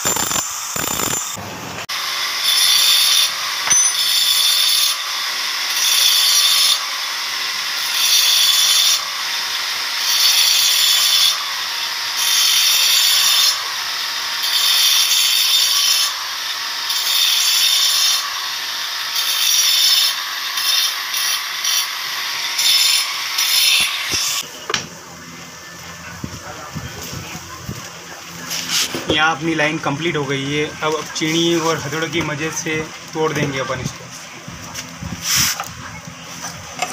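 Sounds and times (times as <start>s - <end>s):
angle grinder cutting stone: 0.0s - 24.5s, 28.4s - 34.1s.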